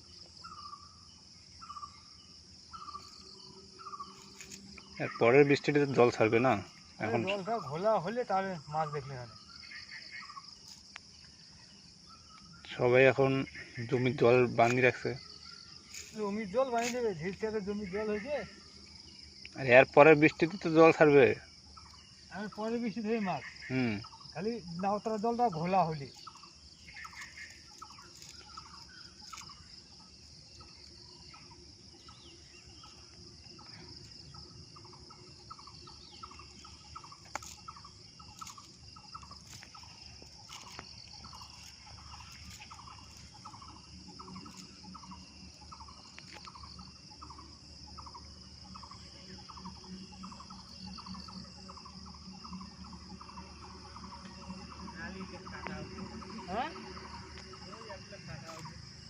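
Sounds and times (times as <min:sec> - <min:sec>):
crickets and insects droning: 0:00.0 - 0:59.0.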